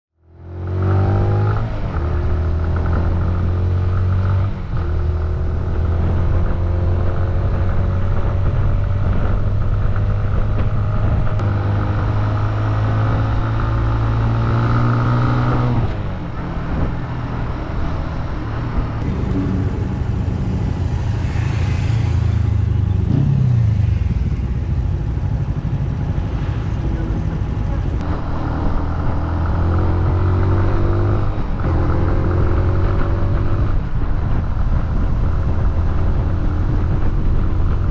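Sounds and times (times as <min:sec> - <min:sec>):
motorcycle engine accelerating: 0:00.2 - 0:37.9.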